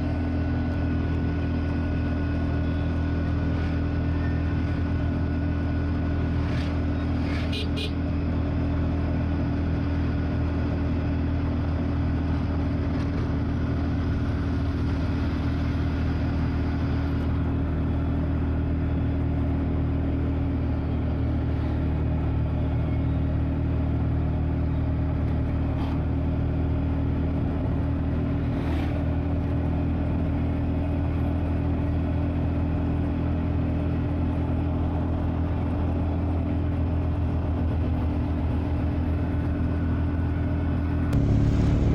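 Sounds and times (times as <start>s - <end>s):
road noise: 0.0s - 41.9s
vehicle engine drone: 0.0s - 41.9s.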